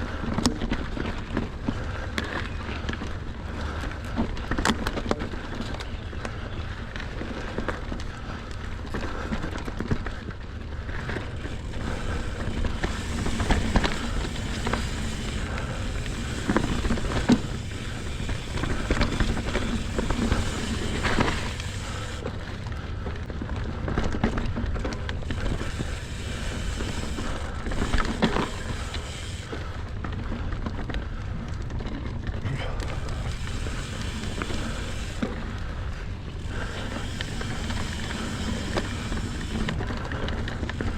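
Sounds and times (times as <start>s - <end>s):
bike rattling and clunking: 0.0s - 40.9s
bike tyres rumbling on dirt: 0.0s - 40.9s.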